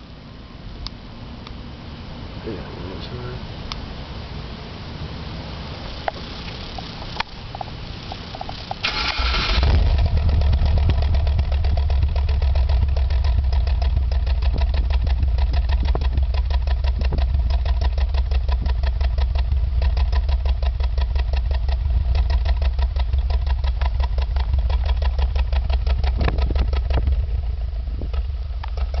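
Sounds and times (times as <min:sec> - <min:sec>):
car engine cranking and idling: 0:00.0 - 0:29.0.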